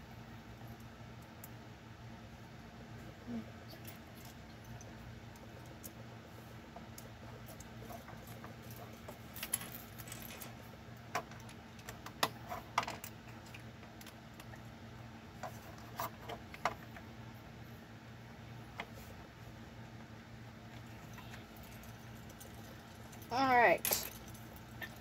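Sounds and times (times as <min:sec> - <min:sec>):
faint steady low hum: 0:00.0 - 0:25.0.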